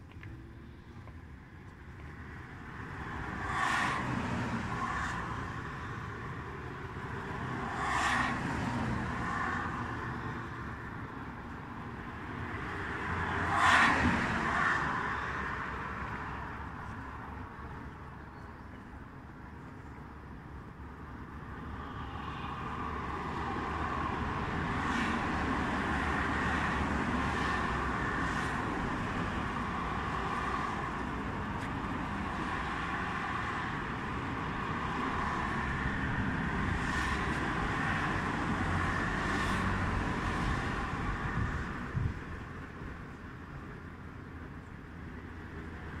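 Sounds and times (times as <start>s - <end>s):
distant motor traffic: 0.0s - 46.0s.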